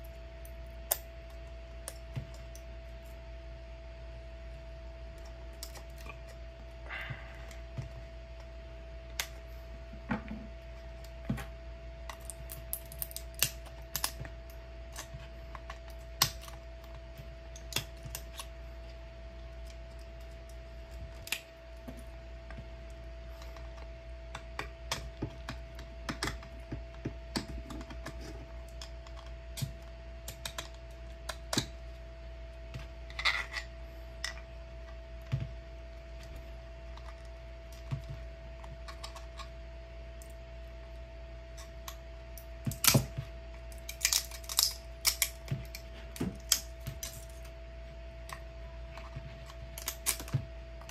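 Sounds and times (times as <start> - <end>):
background hum: 0.0 - 50.9.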